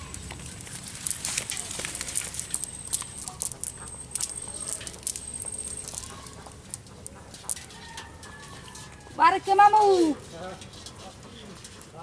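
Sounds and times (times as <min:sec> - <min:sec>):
cast net clicks and rustling: 0:00.0 - 0:12.0.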